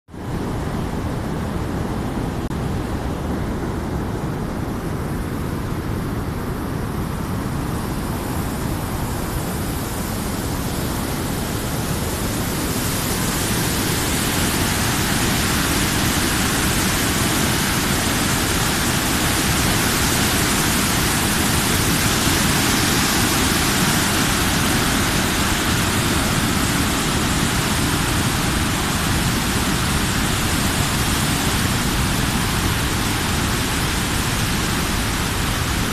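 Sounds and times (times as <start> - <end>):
water pouring over dam spillway: 6.5 - 35.9.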